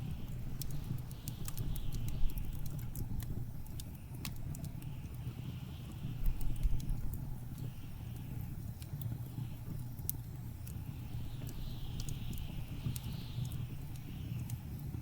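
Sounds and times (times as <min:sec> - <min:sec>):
blizzard wind rumbling and whistling: 0:00.0 - 0:15.0
wood fire crackling and popping: 0:00.0 - 0:15.0.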